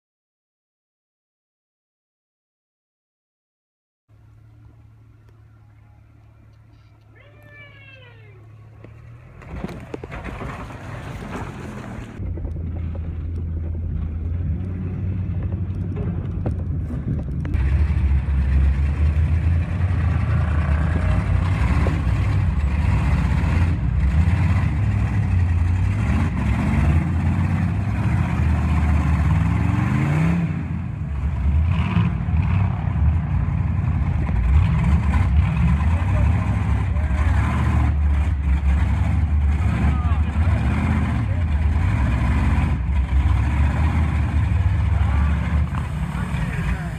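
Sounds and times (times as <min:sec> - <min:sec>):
off-road vehicle engine revving: 0:04.2 - 0:46.9.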